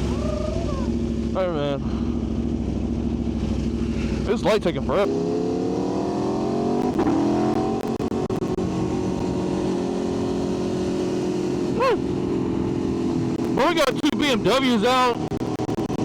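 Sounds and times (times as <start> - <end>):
motorcycle engine pulling away: 0.0 - 13.6.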